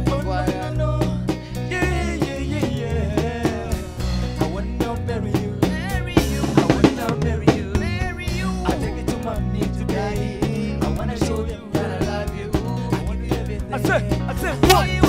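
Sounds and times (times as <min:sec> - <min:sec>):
bass line: 0:00.0 - 0:15.0
drum kit steady beat: 0:00.0 - 0:15.0.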